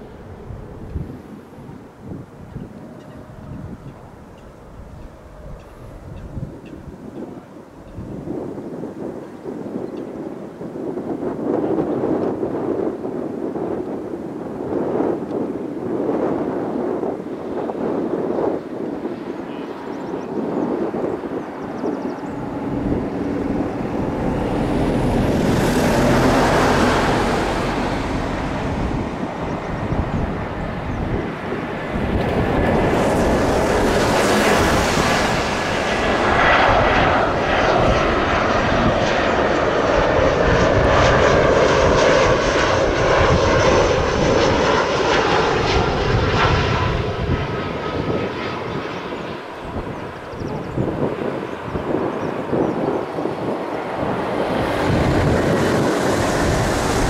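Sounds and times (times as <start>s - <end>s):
jet engine rumble with whine: 0.0s - 57.0s.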